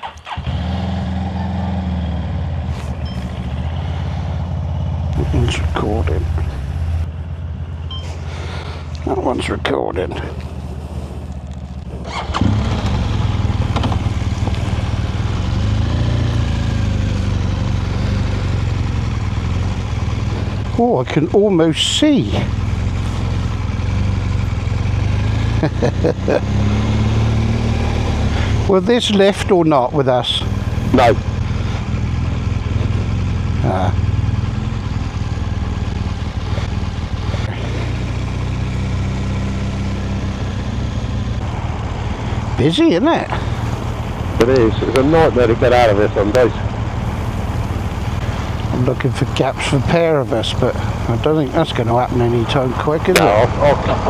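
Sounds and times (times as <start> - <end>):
another engine idling: 0.0 - 54.0
motorcycle engine starting and idling: 0.0 - 54.0.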